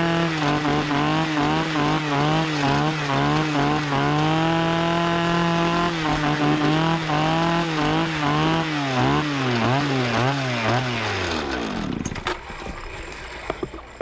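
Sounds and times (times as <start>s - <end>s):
chainsaw running: 0.0s - 13.9s.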